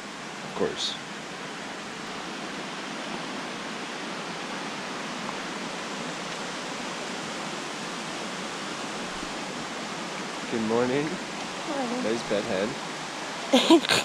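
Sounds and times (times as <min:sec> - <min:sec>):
river running over stones: 0:00.0 - 0:14.0.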